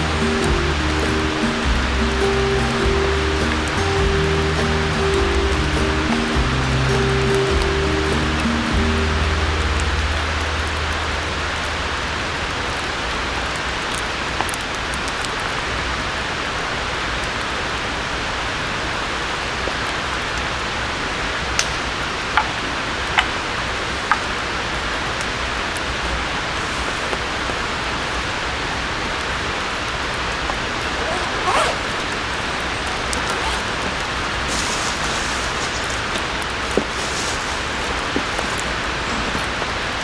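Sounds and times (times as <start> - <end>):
rain falling in forest: 0.0 - 40.0.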